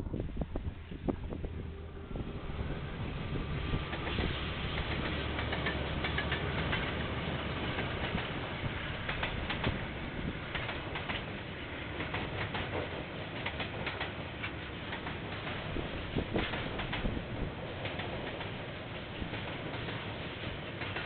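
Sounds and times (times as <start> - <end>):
train passing rumble: 0.0 - 21.0
wheels clicking on rails: 2.7 - 21.0.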